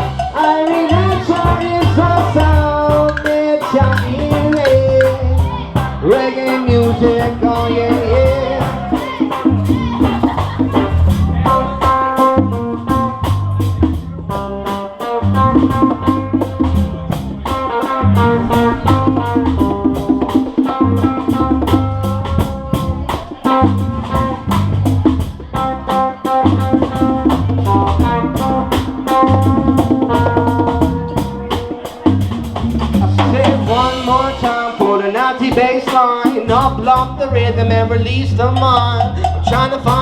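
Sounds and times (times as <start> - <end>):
bass line: 0.0 - 40.0
drum kit beat: 0.0 - 40.0.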